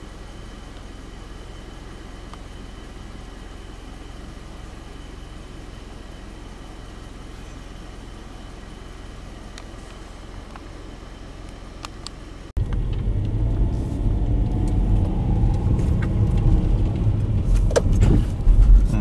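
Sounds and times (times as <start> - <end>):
car engine hum from inside: 0.0 - 19.0.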